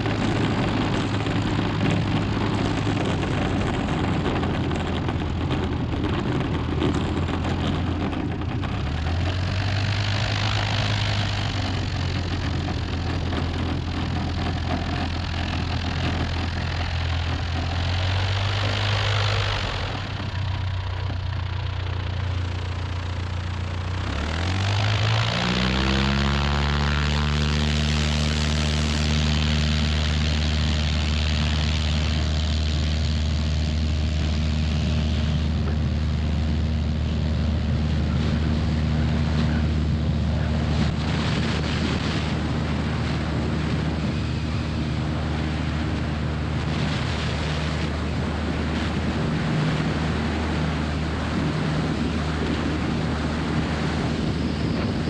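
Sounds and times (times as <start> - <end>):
light aircraft engine at full throttle: 0.0 - 55.0.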